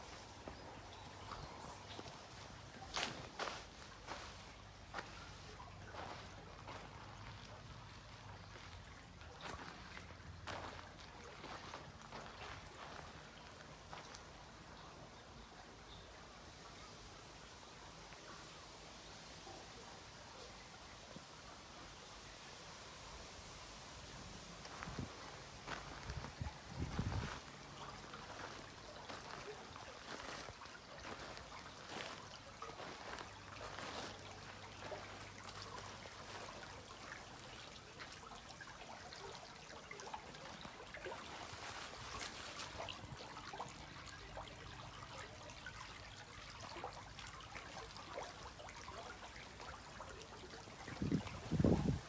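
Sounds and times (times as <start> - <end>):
river trickling over stones: 0.0 - 52.0.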